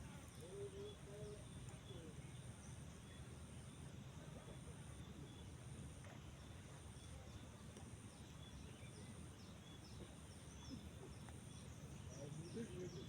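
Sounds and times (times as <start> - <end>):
faint bird chirps: 0.2 - 13.0.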